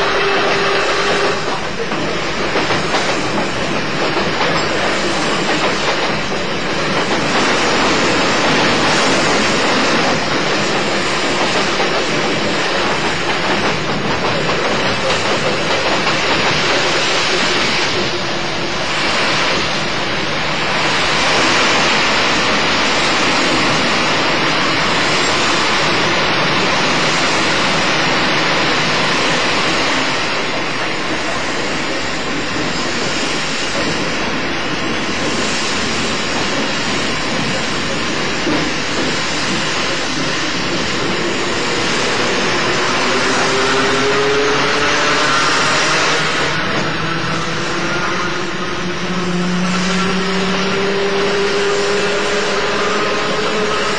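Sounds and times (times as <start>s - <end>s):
train running on rails: 0.0s - 53.9s.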